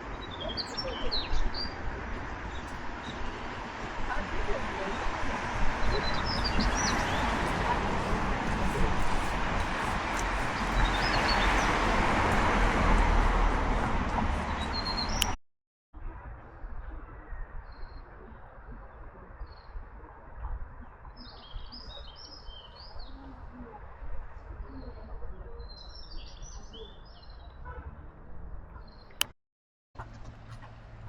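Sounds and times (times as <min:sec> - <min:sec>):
small birds chirping: 0:00.0 - 0:15.4, 0:16.7 - 0:27.6.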